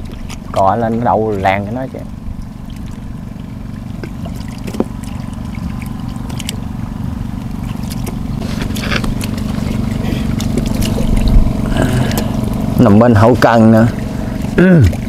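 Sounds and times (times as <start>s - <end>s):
water splashing and trickling: 0.0s - 15.0s
small engine running: 1.4s - 15.0s.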